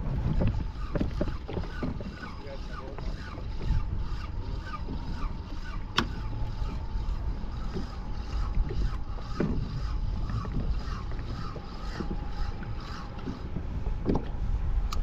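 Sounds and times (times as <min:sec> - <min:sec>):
water lapping against kayak hull: 0:00.0 - 0:15.0
wind rumbling on microphone: 0:00.0 - 0:15.0.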